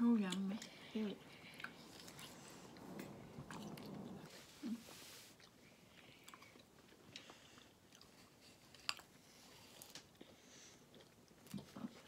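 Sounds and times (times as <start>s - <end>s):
chewing crisp fruit: 0.3s - 4.7s, 5.3s - 12.0s.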